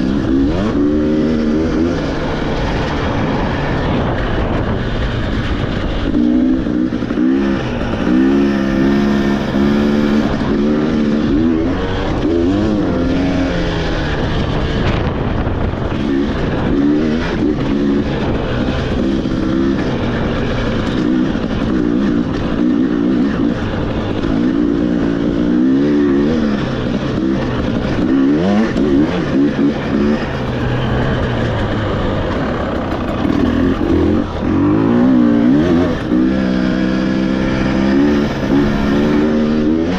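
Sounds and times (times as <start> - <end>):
motorcycle engine revving: 0.0 - 39.9
wind and ground rumble: 0.0 - 39.9.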